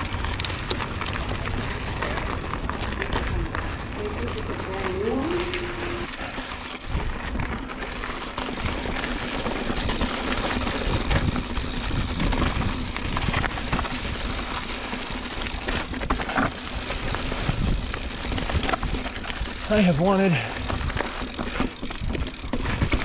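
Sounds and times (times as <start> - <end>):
bike knocking and rattling: 0.0 - 23.0
bike tyres crunching over rocks: 0.0 - 23.0.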